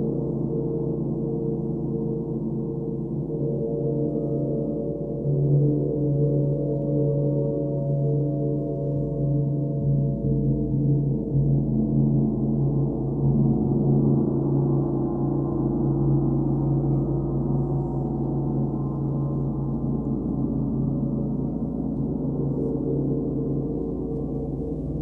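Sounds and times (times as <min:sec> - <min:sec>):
gongs played with soft mallets: 0:00.0 - 0:25.0.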